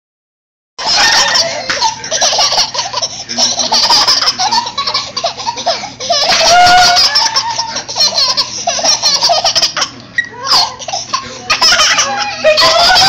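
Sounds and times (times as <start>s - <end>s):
toddlers laughing: 0.8s - 13.0s.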